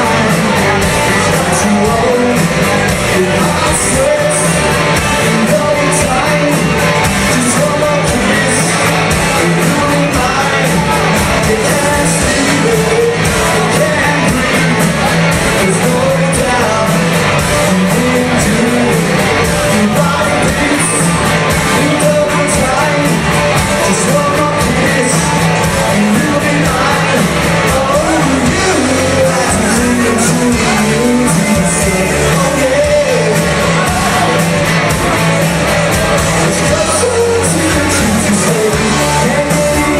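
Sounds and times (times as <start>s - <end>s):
live rock band playing: 0.0s - 39.9s
person singing: 0.0s - 39.9s
steady drum beat: 0.0s - 39.9s.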